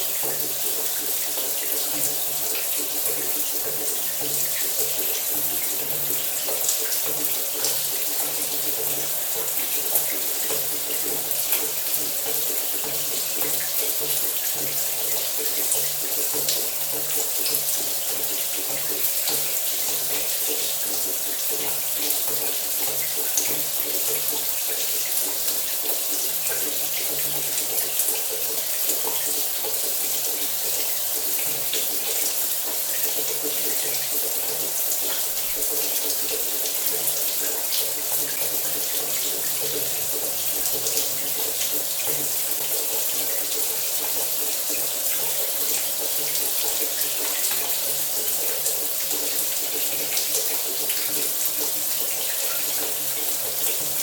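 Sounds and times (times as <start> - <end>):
shower spraying water: 0.0 - 54.0.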